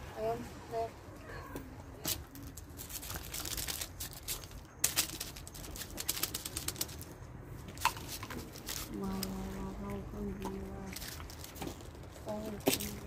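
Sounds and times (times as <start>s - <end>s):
cat chewing and licking: 2.2s - 13.0s.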